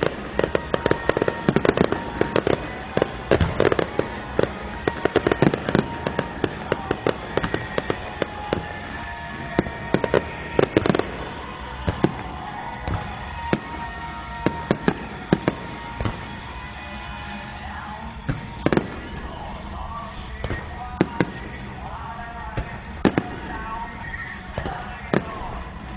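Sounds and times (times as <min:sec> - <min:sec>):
fireworks bangs and crackling: 0:00.0 - 0:25.9
show music with held notes: 0:00.0 - 0:25.9.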